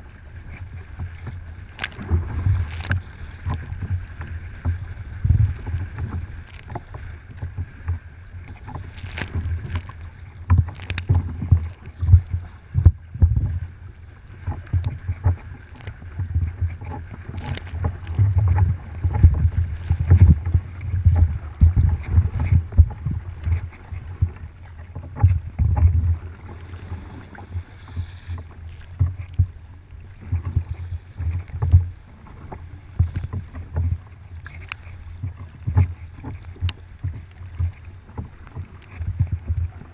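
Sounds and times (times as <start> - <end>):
water slapping against kayak hull: 0.0 - 39.9
wind rumbling on microphone: 0.0 - 39.9.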